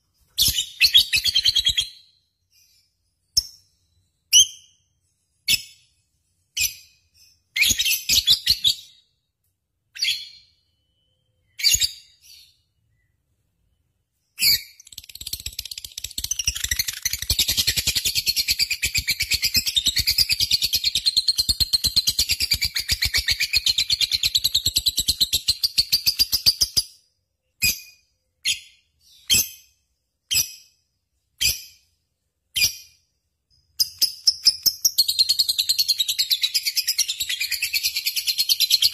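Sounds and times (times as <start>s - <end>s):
bird chirping and trilling: 0.2s - 9.2s, 9.9s - 38.9s.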